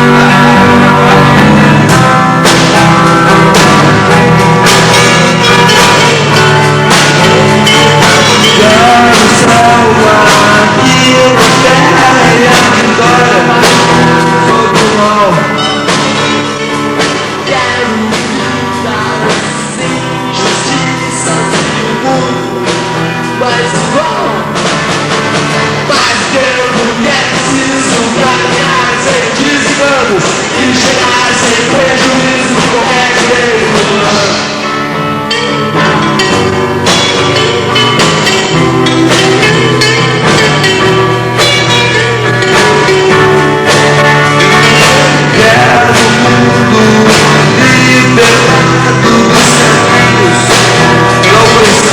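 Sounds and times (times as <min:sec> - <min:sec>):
person singing: 0:00.0 - 0:51.9
rock band playing live: 0:00.0 - 0:51.9.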